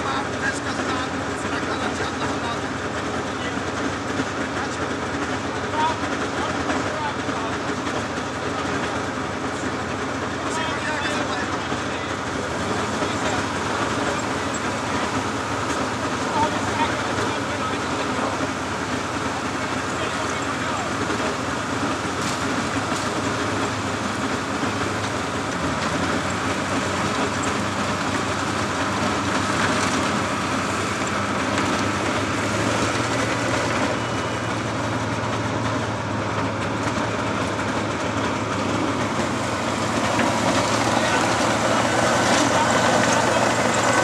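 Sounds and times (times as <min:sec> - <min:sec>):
diesel engine running: 0:00.0 - 0:44.0
steel tracks clanking: 0:00.0 - 0:44.0.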